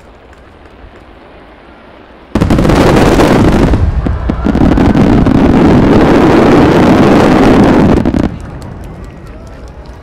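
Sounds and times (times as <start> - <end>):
firework shells booming and crackling: 0.0 - 10.0.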